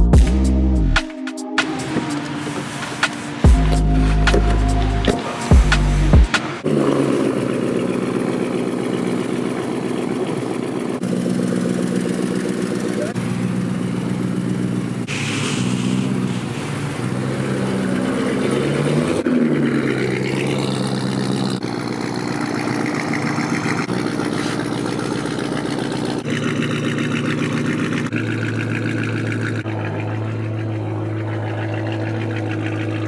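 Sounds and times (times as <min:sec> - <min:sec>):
vehicle engine idling and revving: 0:00.0 - 0:33.0.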